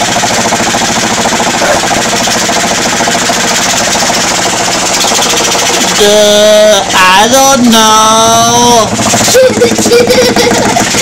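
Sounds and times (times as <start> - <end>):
rapid pulsing vest machine: 0.0 - 11.0.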